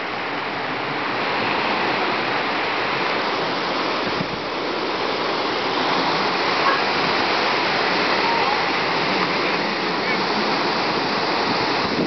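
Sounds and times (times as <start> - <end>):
wind rushing through trees: 0.0 - 12.0.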